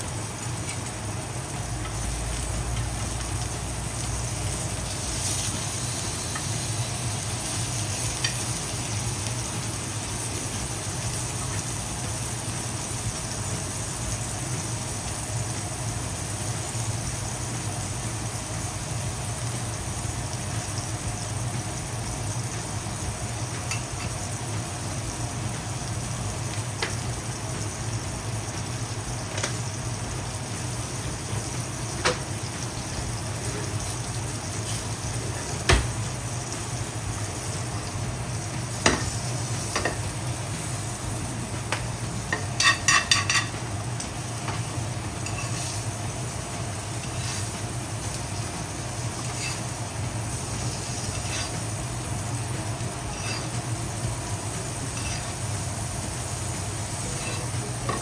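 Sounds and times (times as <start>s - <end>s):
meat sizzling in butter: 0.0s - 58.0s.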